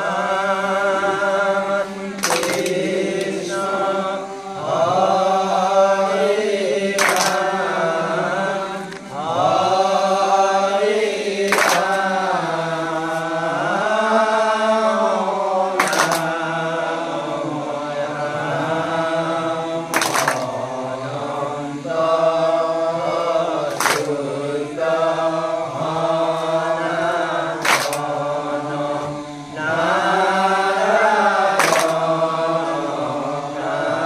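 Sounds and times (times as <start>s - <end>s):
devotional chant singing: 0.0s - 34.0s.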